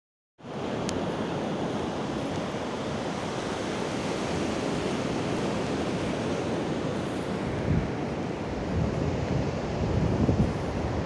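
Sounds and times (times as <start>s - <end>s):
surf breaking on a beach: 0.4s - 11.0s
wind buffeting the microphone: 0.5s - 11.0s.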